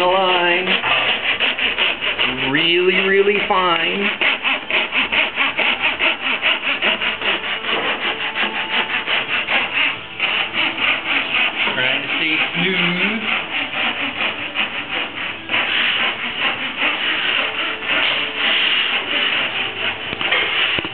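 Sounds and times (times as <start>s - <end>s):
fine saw cutting wood veneer: 0.0s - 20.9s.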